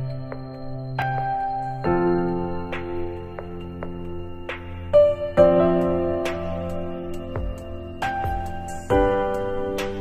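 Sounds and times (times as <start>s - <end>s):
soft keyboard background music: 0.0s - 10.0s.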